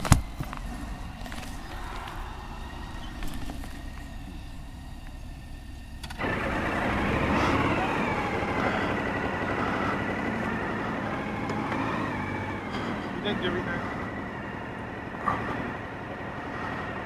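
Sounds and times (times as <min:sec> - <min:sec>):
forecourt rumble: 0:00.0 - 0:17.0
high whine: 0:00.0 - 0:17.0
motorcycle engine running: 0:00.0 - 0:17.0.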